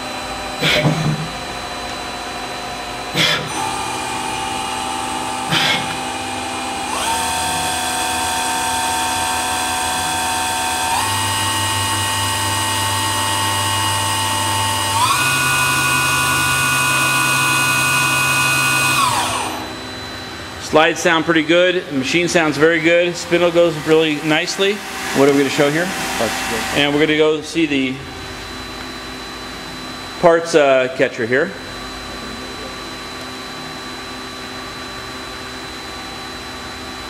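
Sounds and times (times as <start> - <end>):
lathe spindle whine: 0.0 - 30.8.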